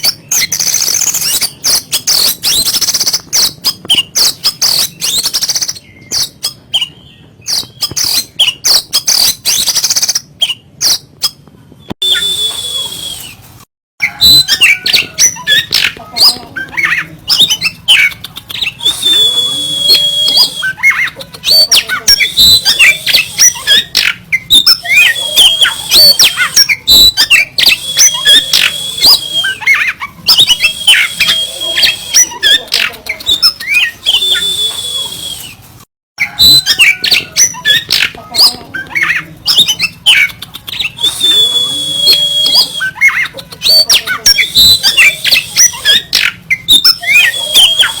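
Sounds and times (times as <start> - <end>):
magpie-robin singing rasping chatter: 0.0 - 11.4, 14.0 - 48.0.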